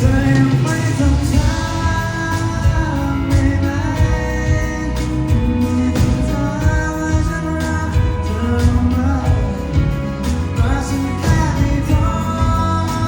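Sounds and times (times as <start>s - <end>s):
drum beat and bass: 0.0s - 13.0s
person singing: 0.0s - 13.0s.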